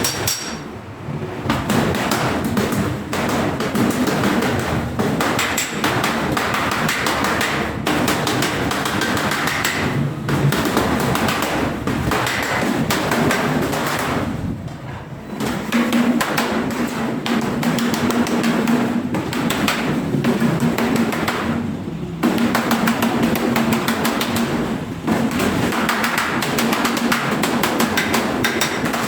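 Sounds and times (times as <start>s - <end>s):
hammer blows on sheet steel: 0.0s - 29.0s.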